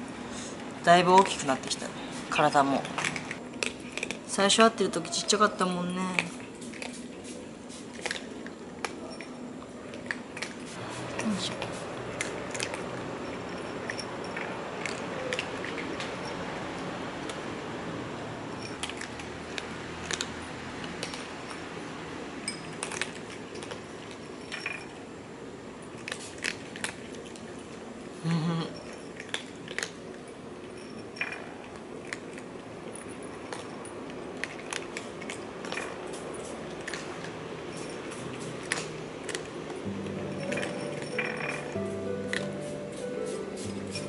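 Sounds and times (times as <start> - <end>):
low background hum: 0.0 - 44.0
cats crunching dry kibble: 1.2 - 4.8, 5.8 - 16.2, 18.7 - 25.0, 25.8 - 28.2, 28.8 - 43.0.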